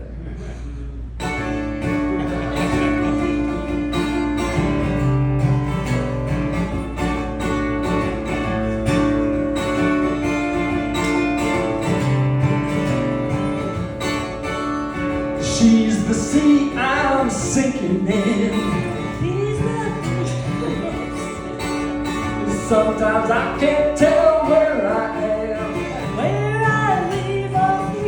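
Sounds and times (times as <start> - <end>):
acoustic guitar strumming: 1.2 - 28.0.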